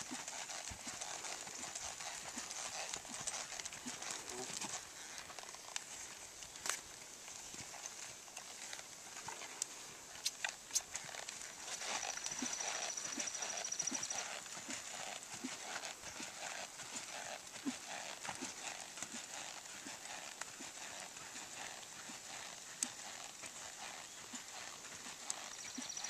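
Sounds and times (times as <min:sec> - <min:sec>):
horse hoofbeats on sand: 0:00.0 - 0:26.0.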